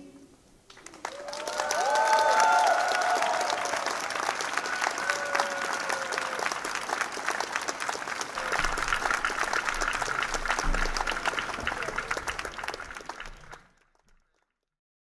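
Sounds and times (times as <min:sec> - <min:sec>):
crowd applauding: 0:00.7 - 0:14.4.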